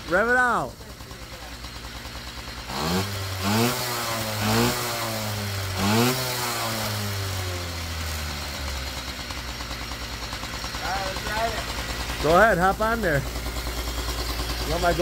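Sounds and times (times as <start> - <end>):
moped engine idling: 0.0 - 15.0
moped engine revving: 0.0 - 15.0.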